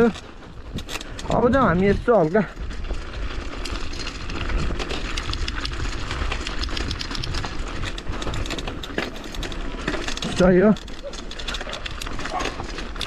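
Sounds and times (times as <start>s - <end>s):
bicycle rattling over rough ground: 0.0s - 13.0s.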